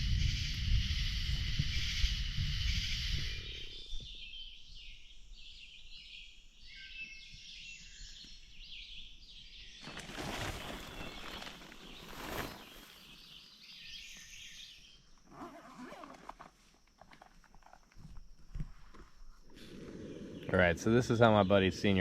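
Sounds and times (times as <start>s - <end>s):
birds chirping: 0.2s - 16.2s, 17.6s - 22.0s.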